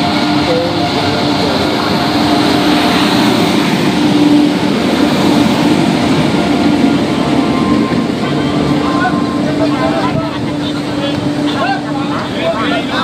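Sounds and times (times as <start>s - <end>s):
locomotive hum: 0.0s - 13.0s
train wheels on rails: 0.0s - 13.0s.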